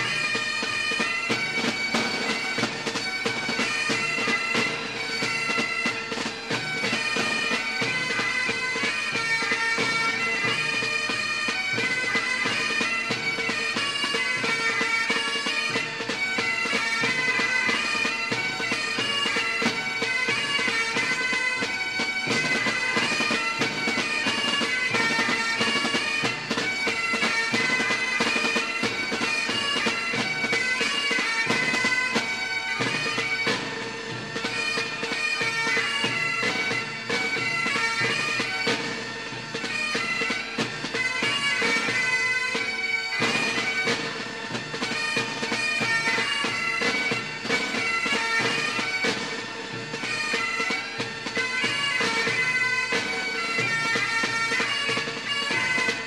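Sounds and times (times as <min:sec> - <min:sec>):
bagpipe melody with drone: 0:00.0 - 0:56.0.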